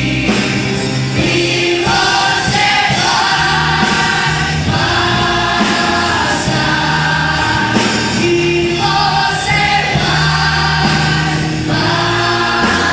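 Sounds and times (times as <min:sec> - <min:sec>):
choir singing gospel song: 0:00.0 - 0:12.9
instrumental backing with bass: 0:00.0 - 0:12.9.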